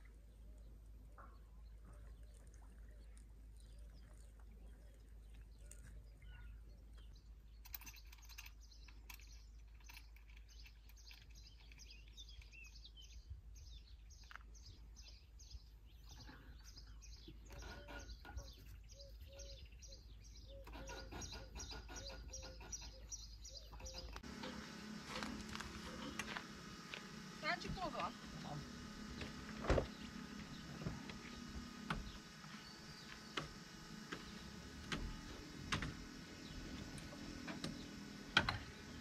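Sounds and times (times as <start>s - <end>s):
faint birds chirping: 0.0s - 39.0s.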